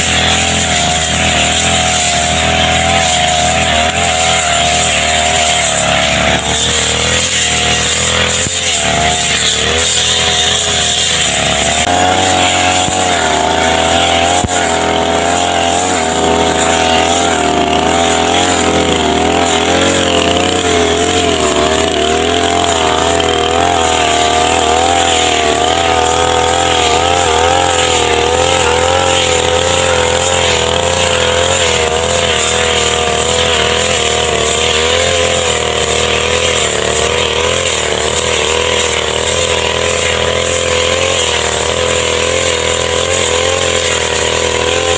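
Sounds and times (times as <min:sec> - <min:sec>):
brush cutter engine running: 0:00.0 - 0:44.9.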